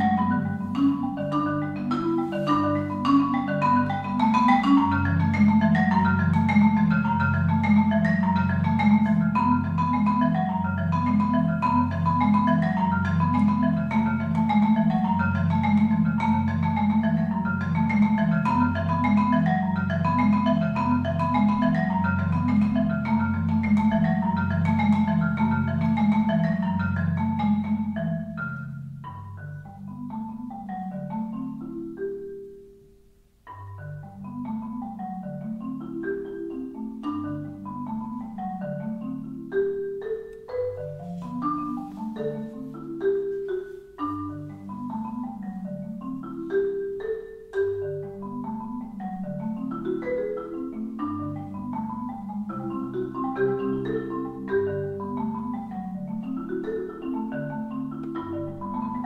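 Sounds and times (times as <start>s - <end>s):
marimba played with mallets: 0.0s - 59.0s.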